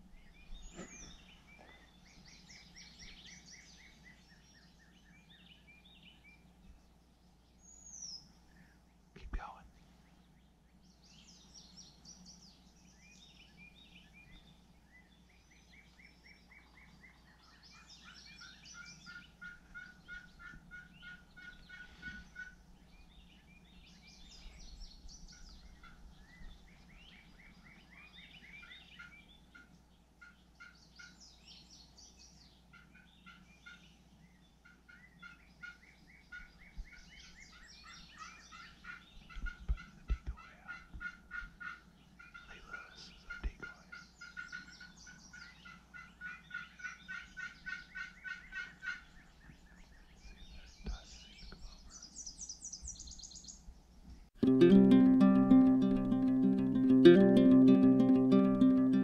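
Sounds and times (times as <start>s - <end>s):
birds singing: 0.0s - 54.2s.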